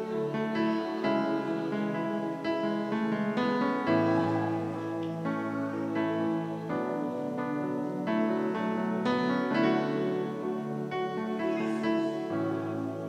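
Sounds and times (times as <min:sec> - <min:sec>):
electric keyboard chords: 0:00.0 - 0:13.0.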